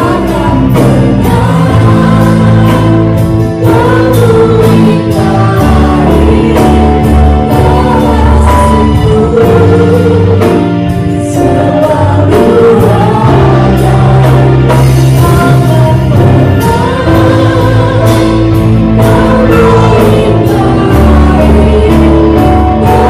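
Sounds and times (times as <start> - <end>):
bass guitar: 0.0 - 23.0
drum kit: 0.0 - 23.0
keyboard: 0.0 - 23.0
people singing together: 0.0 - 23.0.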